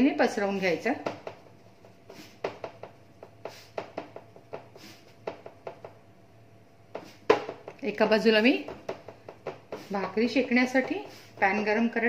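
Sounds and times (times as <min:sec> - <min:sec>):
fingers patting dough: 0:00.6 - 0:06.2, 0:06.8 - 0:12.0.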